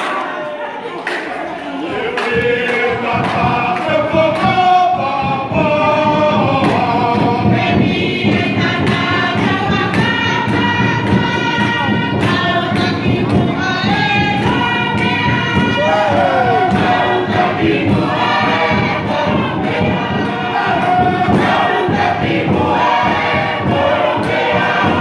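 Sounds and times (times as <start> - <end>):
group singing in chorus: 0.0 - 25.0
struck beat: 1.9 - 25.0.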